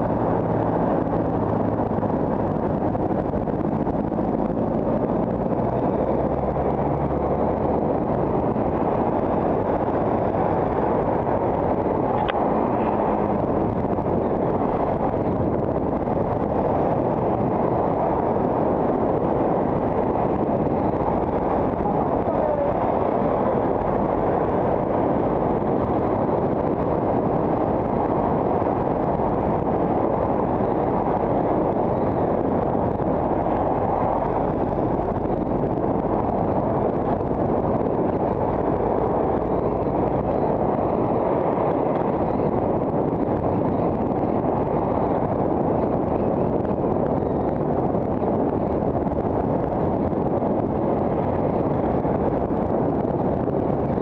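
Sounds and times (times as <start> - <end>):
road and traffic noise: 0.0 - 54.0
wind rushing on microphone: 0.0 - 54.0.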